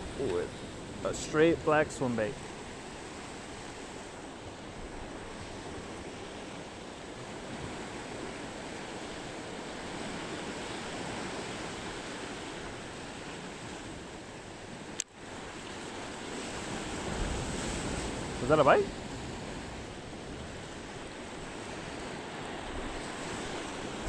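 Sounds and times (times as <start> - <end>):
ocean surf on rocky shore: 0.0 - 24.0.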